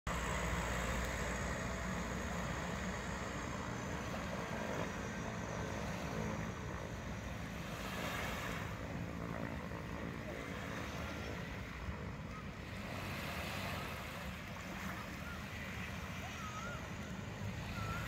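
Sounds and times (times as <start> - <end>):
distant propeller engines droning: 0.1 - 18.0.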